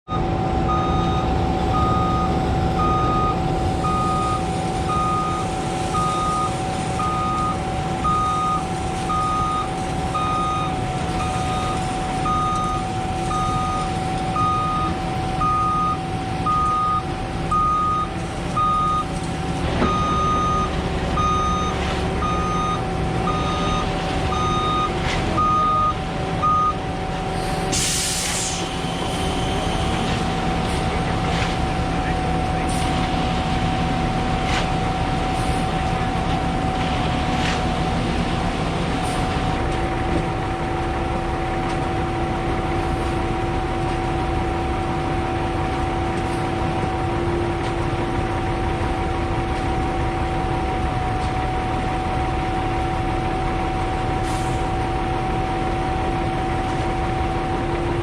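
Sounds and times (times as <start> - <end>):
truck backup alarm beeping: 0.1 - 58.0
truck engine running: 0.1 - 58.0.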